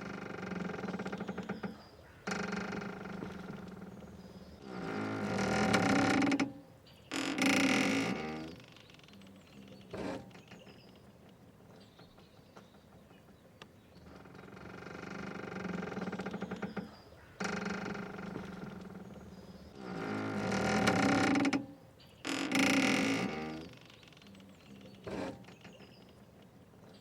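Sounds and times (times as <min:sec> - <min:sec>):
boat rope creaking: 0:00.0 - 0:27.0.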